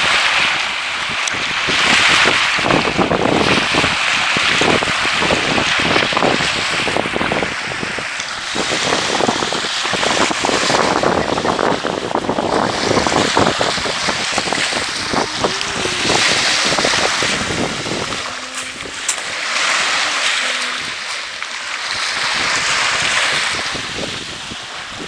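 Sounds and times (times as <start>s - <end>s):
sea waves washing onto shore: 0.0s - 25.0s
wind buffeting microphone: 0.0s - 25.0s.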